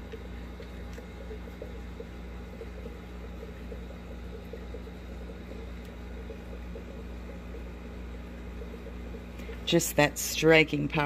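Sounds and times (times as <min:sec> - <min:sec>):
aquarium equipment humming: 0:00.0 - 0:11.0.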